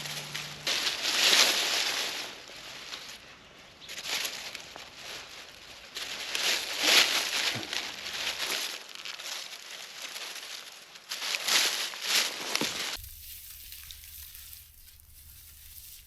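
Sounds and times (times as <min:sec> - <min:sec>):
dry reeds rustling and crackling: 0:00.0 - 0:16.0.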